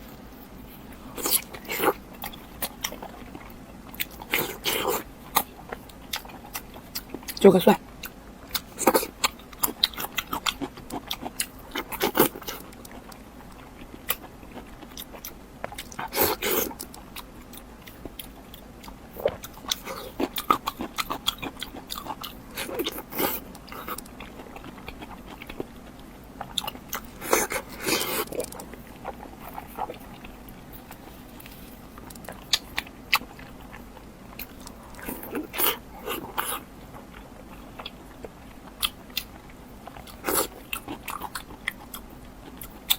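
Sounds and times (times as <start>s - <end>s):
person chewing crunchy food: 0.6s - 42.9s.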